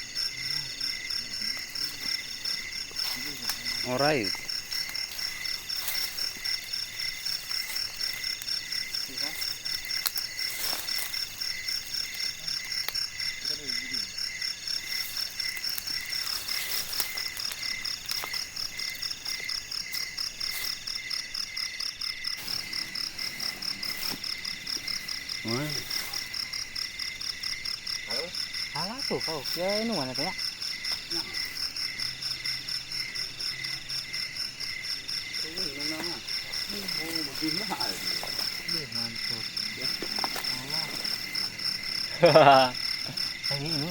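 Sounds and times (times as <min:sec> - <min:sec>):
frogs calling: 0:00.0 - 0:43.9
insects chirping: 0:00.0 - 0:43.9.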